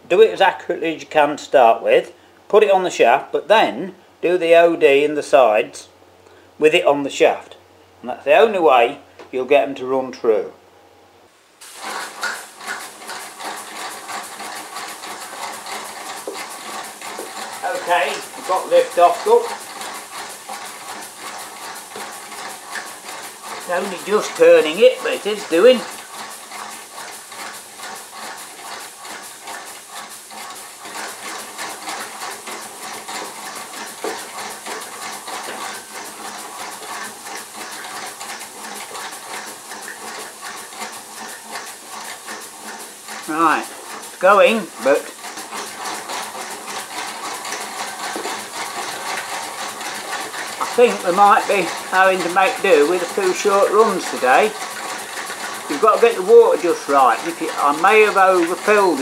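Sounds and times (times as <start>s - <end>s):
model steam engine chuffing: 11.6s - 59.0s.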